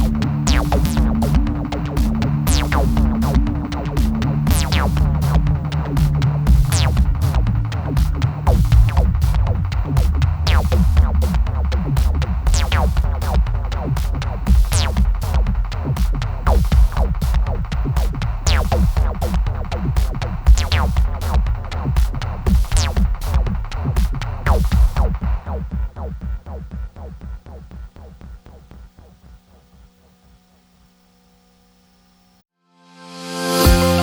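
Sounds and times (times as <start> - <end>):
electronic music with pounding beat: 0.0 - 30.4, 33.6 - 34.0.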